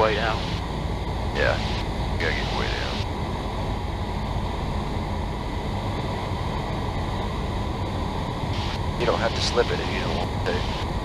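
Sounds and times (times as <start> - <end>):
propeller engine drone: 0.0 - 11.0.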